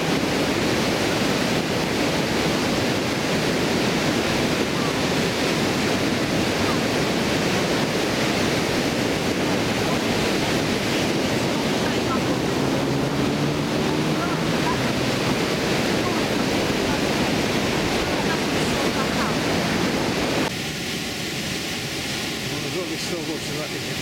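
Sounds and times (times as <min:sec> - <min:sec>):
water rushing over weir: 0:00.0 - 0:24.0.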